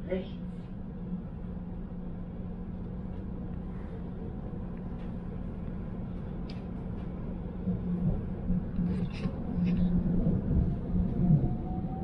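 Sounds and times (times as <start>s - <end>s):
metro train rumble inside carriage: 0.0s - 12.0s.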